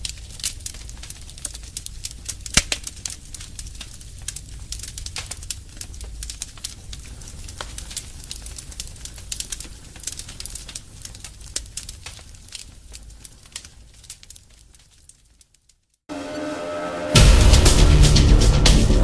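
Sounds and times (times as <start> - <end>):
low fire rumble: 0.0 - 16.0
fire popping: 0.0 - 16.1
wood fire crackling: 0.0 - 16.1.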